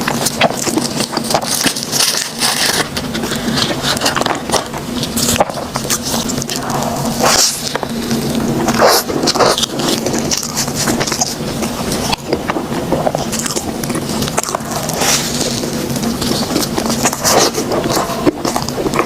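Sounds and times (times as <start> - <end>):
biting and chewing bread: 0.0 - 19.0.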